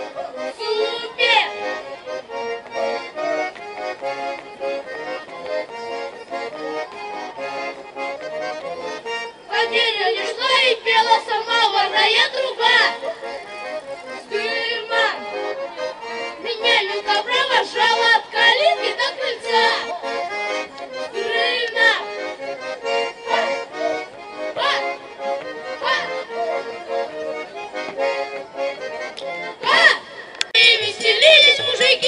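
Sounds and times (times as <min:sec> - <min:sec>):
accordion playing folk tune: 0:00.0 - 0:32.0.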